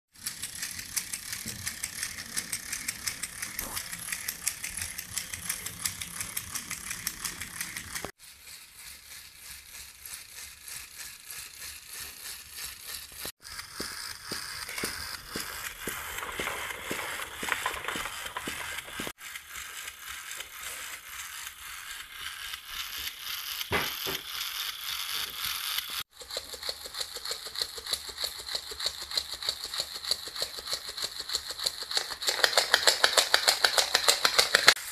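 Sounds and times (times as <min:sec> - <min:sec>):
plastic gears clicking and rattling: 0:00.2 - 0:34.9.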